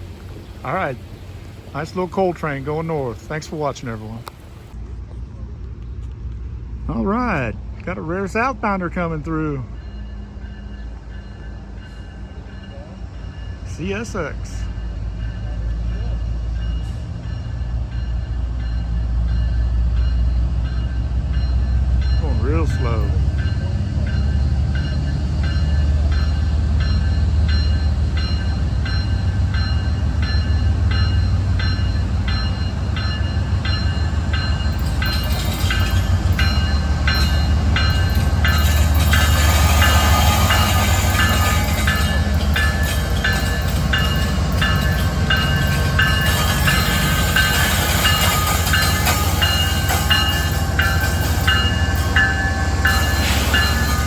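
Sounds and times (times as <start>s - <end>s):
diesel locomotive engine hum: 0.0s - 54.0s.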